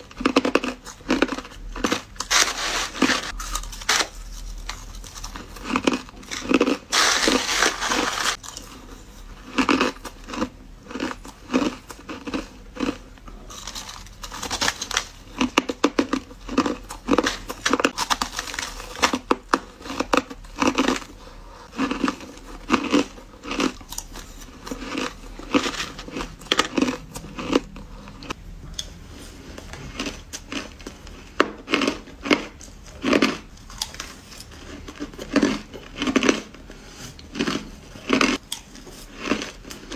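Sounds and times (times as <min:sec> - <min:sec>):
ice crunching between teeth: 0:00.0 - 0:21.2, 0:21.8 - 0:28.4, 0:29.8 - 0:39.9.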